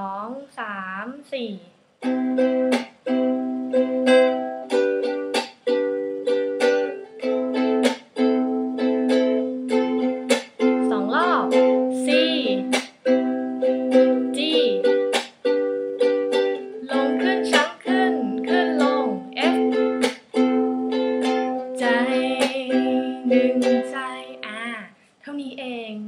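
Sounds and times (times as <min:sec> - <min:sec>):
ukulele strumming: 0:02.0 - 0:24.8.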